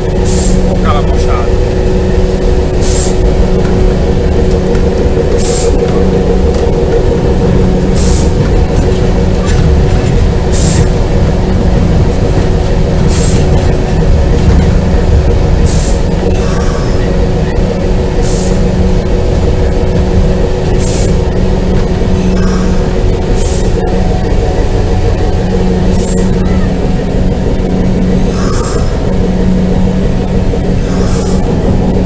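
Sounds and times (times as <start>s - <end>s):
locomotive engine drone: 0.0s - 32.0s.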